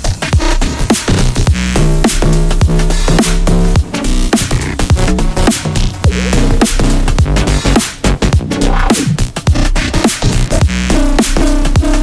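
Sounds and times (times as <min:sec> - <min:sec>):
electronic music with fast beat: 0:00.0 - 0:12.0
deep sliding bass hits: 0:00.4 - 0:12.0.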